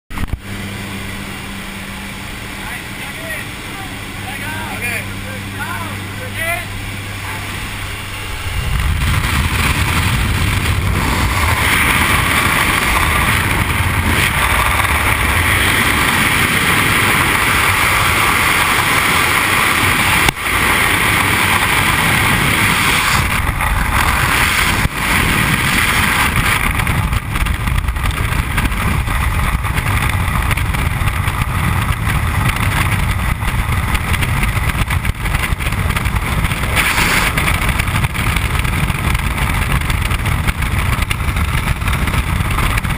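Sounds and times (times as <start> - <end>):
wind rushing over microphone: 0.1 - 42.9.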